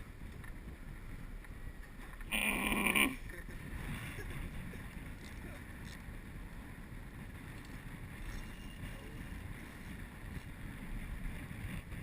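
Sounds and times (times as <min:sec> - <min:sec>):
steady outdoor hiss: 0:00.0 - 0:12.0
wind rumbling on microphone: 0:00.0 - 0:12.0.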